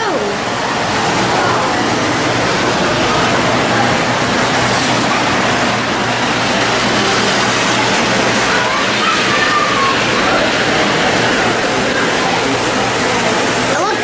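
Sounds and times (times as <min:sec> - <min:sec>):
rushing din of busy hall: 0:00.0 - 0:14.0.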